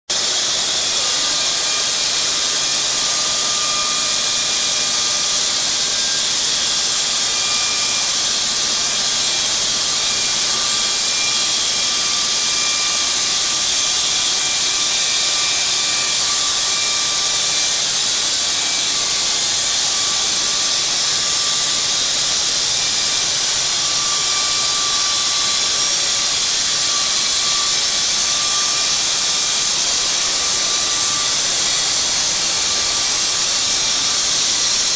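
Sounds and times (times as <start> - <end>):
bandsaw cutting log: 0.1 - 34.9.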